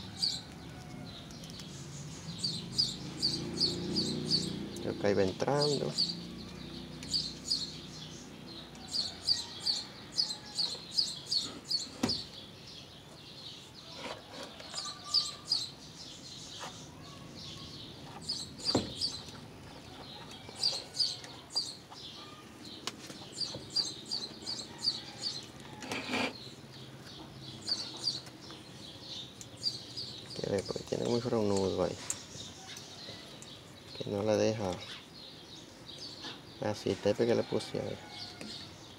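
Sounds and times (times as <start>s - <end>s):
small bird chirping: 0.0s - 36.8s.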